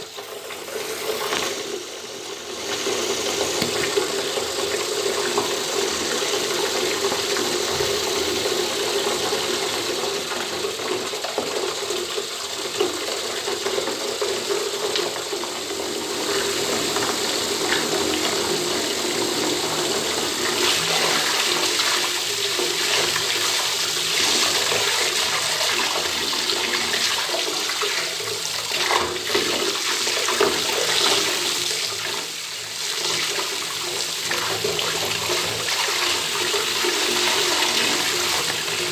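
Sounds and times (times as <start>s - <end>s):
tap water pouring into tub: 0.0s - 38.9s.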